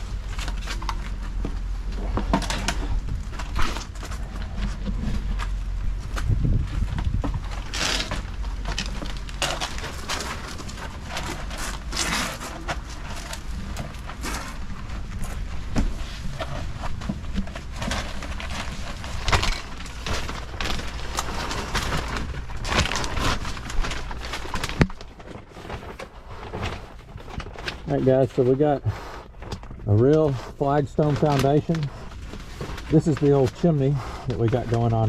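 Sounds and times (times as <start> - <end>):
person crawling rustling and crunching: 0.0 - 28.4
steady low hum: 0.0 - 35.0.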